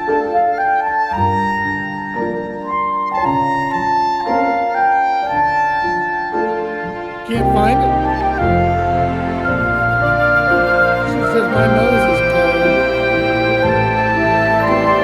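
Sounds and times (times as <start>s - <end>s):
piano chords: 0.0s - 15.0s
woodwind melody: 0.0s - 15.0s.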